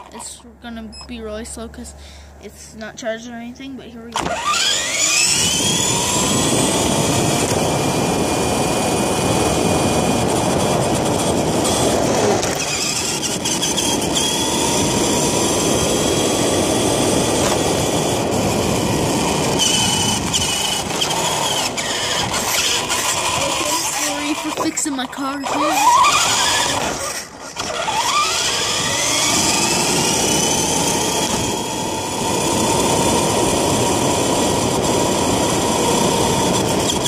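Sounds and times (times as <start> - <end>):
electric motor whine: 4.1 - 37.0
tyre and drivetrain rush: 4.1 - 37.0.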